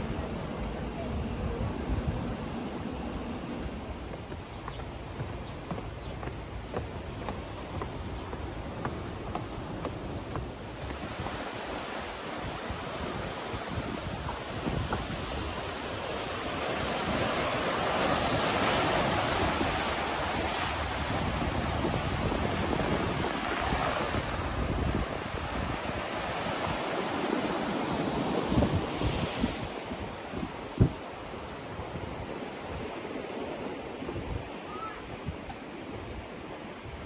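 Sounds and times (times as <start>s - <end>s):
wind buffeting microphone: 0.0s - 37.0s
sea surf washing over rocks: 5.8s - 37.0s.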